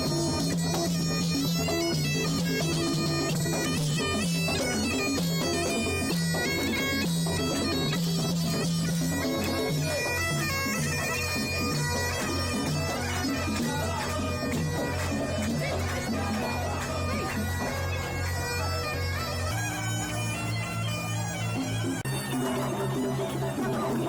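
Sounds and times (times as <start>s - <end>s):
bagpipes playing a tune: 0.0s - 24.0s.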